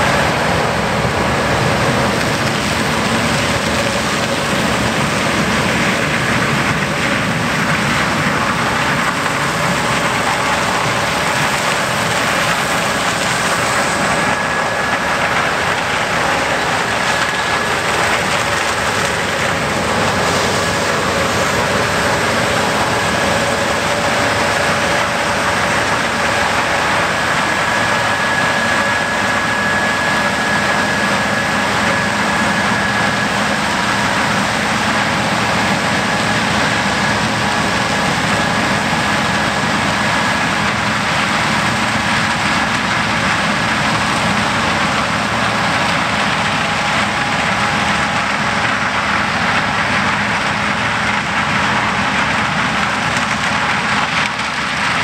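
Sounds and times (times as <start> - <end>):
combine harvester engine running: 0.0 - 55.0
faint steady whines: 0.0 - 55.0.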